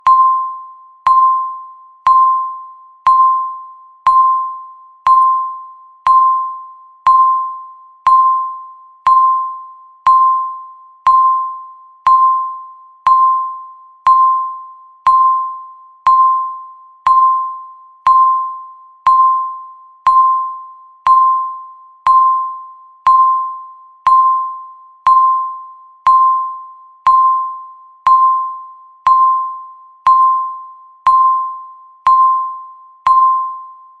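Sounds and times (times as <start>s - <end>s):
electronic timer tick tone: 0.0s - 34.0s.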